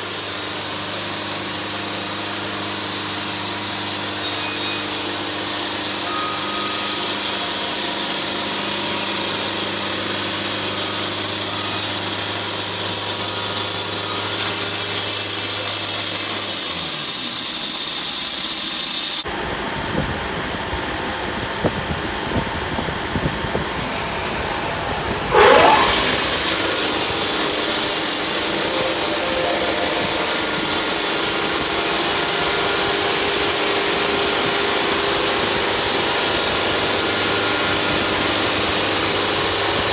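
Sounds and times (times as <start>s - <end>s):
sawmill cutting through log: 0.0s - 19.2s, 25.1s - 39.9s.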